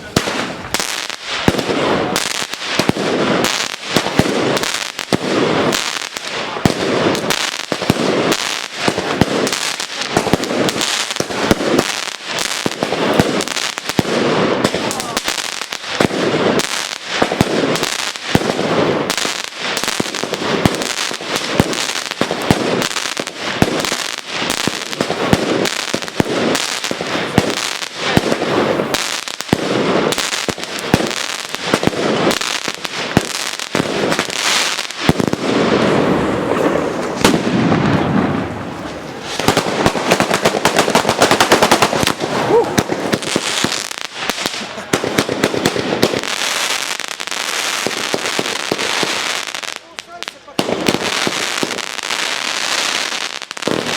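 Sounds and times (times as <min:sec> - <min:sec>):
firecrackers banging rapidly: 0:00.0 - 0:53.9.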